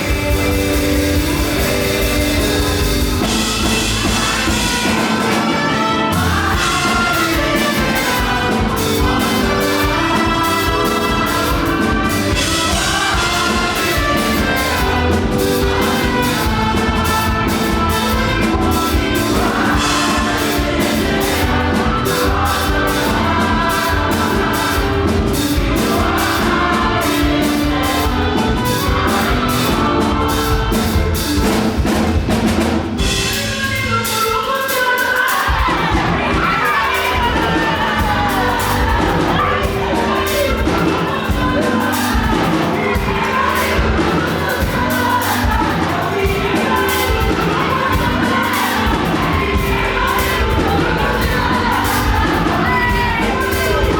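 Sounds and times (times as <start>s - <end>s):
drum kit fast beat: 0.0s - 53.9s
gospel music instruments: 0.0s - 53.9s
people singing: 0.0s - 53.9s.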